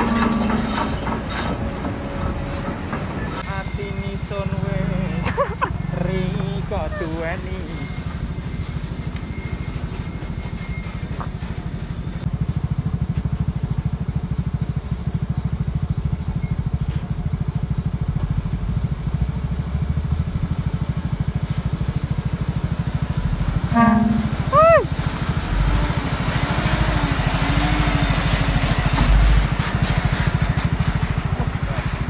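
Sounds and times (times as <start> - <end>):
truck diesel engine labouring: 0.0 - 32.0.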